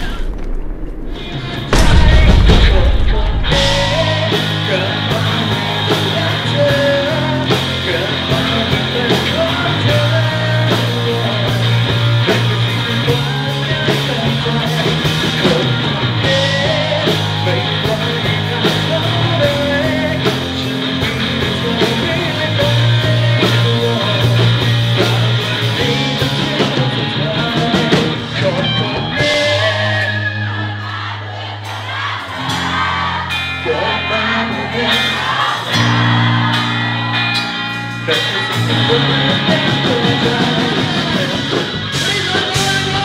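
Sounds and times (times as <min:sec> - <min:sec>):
rock band playing: 0:00.0 - 0:43.0
man singing: 0:01.6 - 0:30.8, 0:33.6 - 0:36.2, 0:37.9 - 0:43.0.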